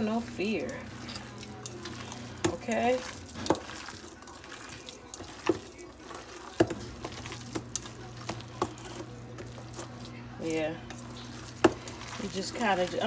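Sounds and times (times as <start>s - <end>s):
wet squelching of kneaded meat: 0.0s - 13.0s.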